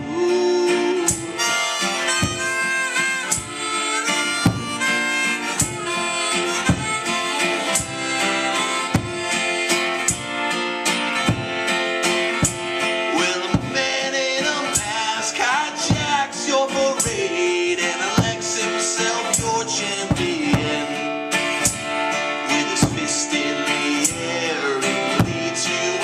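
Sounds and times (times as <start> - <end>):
strong beat: 0.0 - 21.0, 21.6 - 22.1, 22.7 - 23.2, 25.2 - 25.6
bending lead melody: 0.0 - 24.5
live band instrumental: 0.0 - 26.0.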